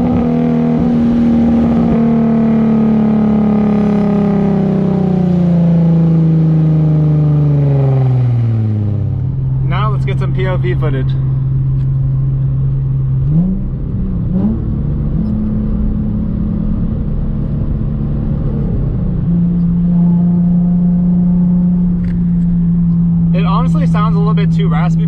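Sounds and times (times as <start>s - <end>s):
raspy car exhaust droning: 0.0s - 25.0s.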